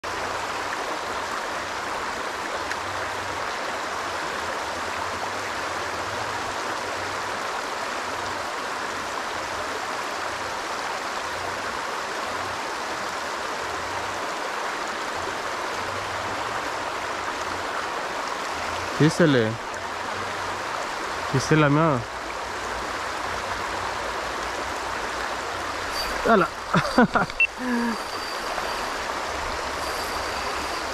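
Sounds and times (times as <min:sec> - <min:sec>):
stream flowing over stones: 0:00.0 - 0:30.9.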